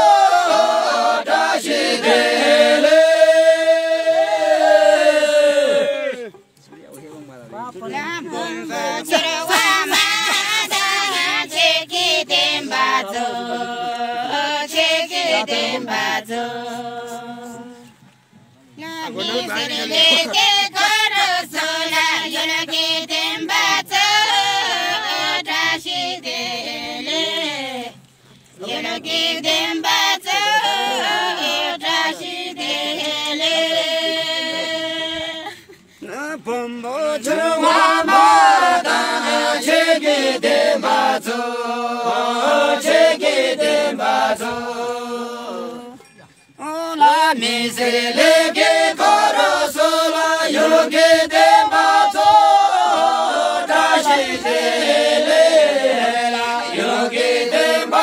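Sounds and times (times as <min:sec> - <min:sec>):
group singing folk song: 0:00.0 - 0:58.0.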